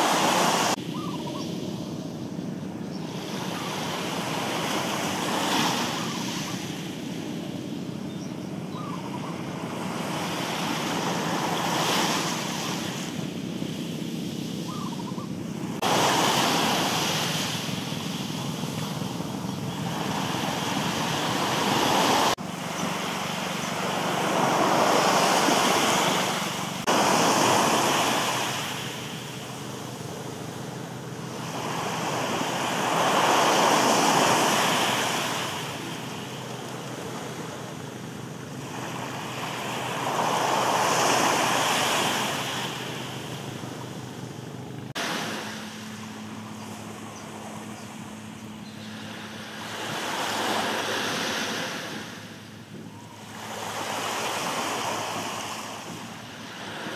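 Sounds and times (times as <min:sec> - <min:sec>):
small waves washing onto shore: 0:00.0 - 0:01.8, 0:03.0 - 0:07.8, 0:08.9 - 0:56.9
steady low hum: 0:00.7 - 0:56.9.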